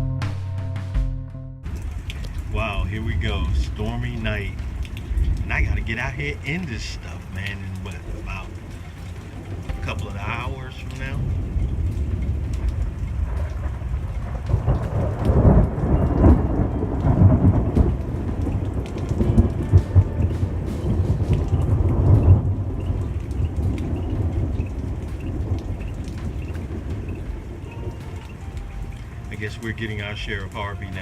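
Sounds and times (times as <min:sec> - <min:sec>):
rolling thunder: 0:01.6 - 0:29.2
steady rain: 0:01.6 - 0:31.0.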